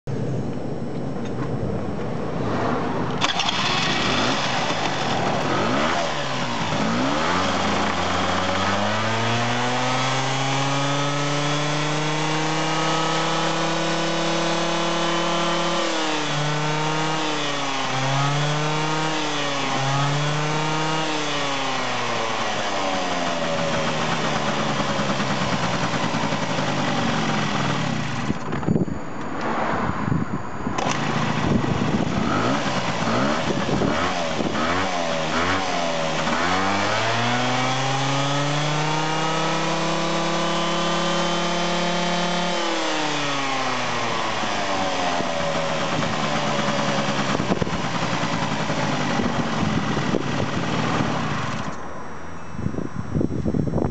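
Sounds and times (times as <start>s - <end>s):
scooter engine revving: 3.2s - 28.5s, 30.8s - 51.8s.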